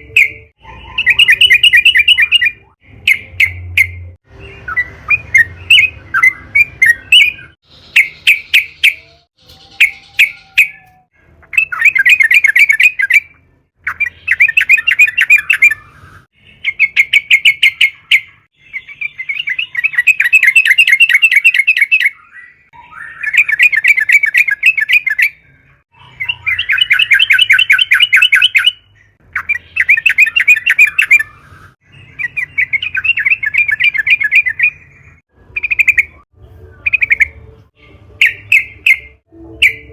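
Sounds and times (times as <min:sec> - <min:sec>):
bulbul singing trilled phrases: 0:00.0 - 0:10.8, 0:11.5 - 0:25.4, 0:26.0 - 0:39.9.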